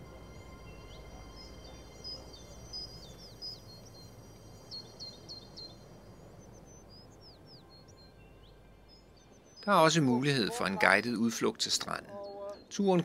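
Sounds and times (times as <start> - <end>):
faint low background hum: 0.0 - 13.0
small birds chirping: 0.0 - 13.0.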